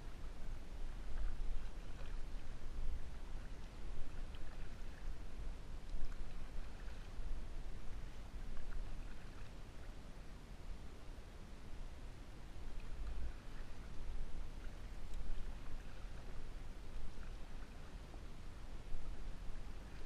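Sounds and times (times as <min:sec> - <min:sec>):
water splashing from paddling: 0:00.0 - 0:10.0, 0:12.6 - 0:20.0
steady low rumble: 0:00.0 - 0:20.0.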